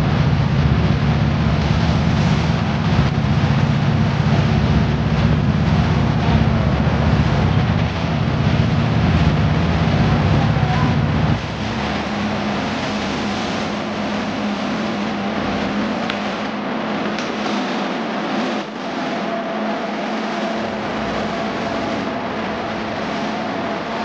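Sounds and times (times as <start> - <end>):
engine running with low rumble: 0.0 - 24.0.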